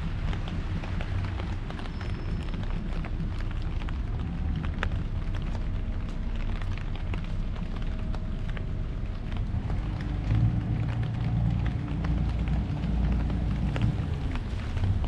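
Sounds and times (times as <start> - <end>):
low steady rumble: 0.0 - 15.0
rain drumming on umbrella: 0.0 - 15.0.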